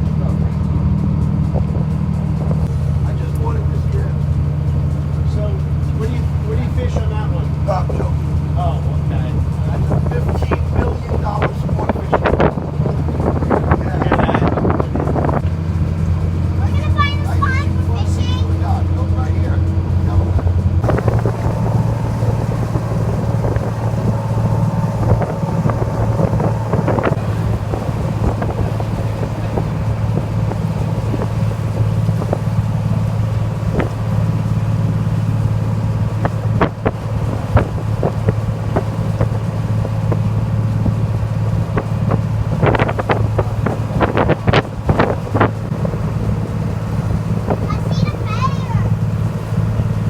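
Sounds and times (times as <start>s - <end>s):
low engine drone: 0.0s - 50.0s
wind buffeting microphone: 0.0s - 50.0s.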